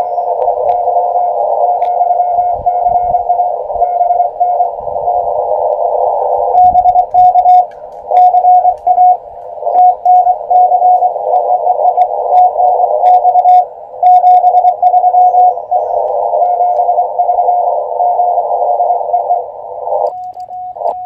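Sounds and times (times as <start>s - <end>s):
morse code tone: 0.0s - 21.0s
radio band hiss: 0.0s - 21.0s.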